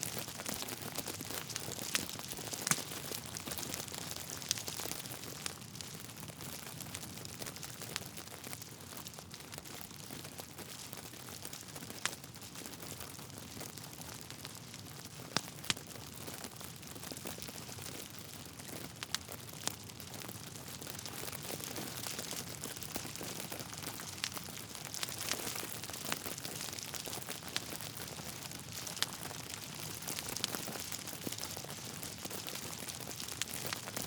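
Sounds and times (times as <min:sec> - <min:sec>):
burning wood popping: 0:00.0 - 0:09.6, 0:15.3 - 0:34.0
log fire crackling: 0:00.0 - 0:34.0.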